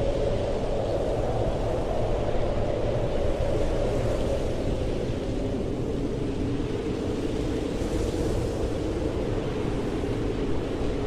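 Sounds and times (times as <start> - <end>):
blizzard wind rushing: 0.0 - 11.0.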